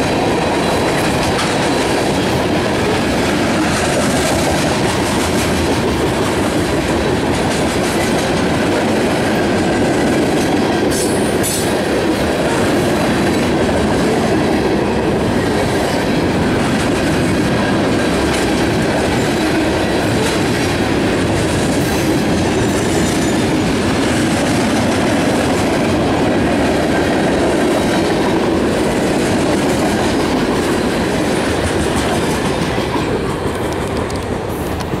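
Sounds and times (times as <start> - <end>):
freight train rolling past: 0.0 - 35.0
steel wheels on rails: 0.0 - 35.0.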